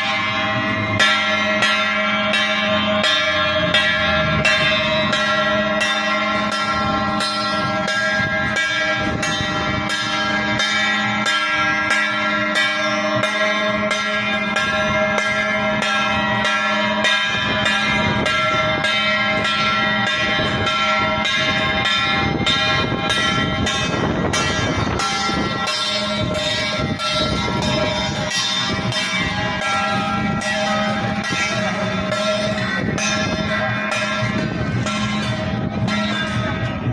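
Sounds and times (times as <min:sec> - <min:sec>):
struck metal percussion ringing: 0:00.0 - 0:36.9.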